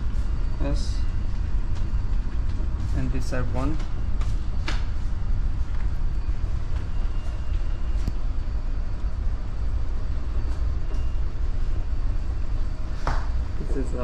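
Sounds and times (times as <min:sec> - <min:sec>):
ship low rumble: 0:00.0 - 0:14.0.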